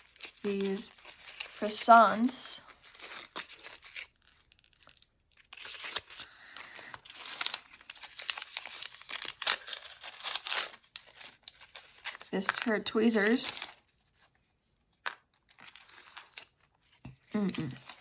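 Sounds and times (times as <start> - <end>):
plastic bag tearing: 0.0 - 13.9, 17.2 - 18.0
plastic bags crinkling: 0.0 - 14.3, 15.0 - 18.0.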